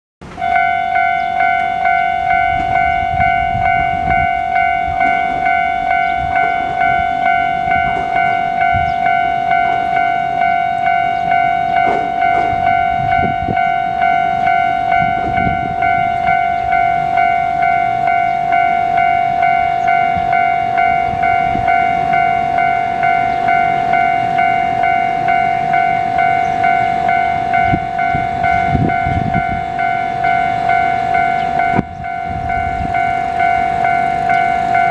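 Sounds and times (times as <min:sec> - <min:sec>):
electronic crossing bell ringing: 0:00.2 - 0:34.9.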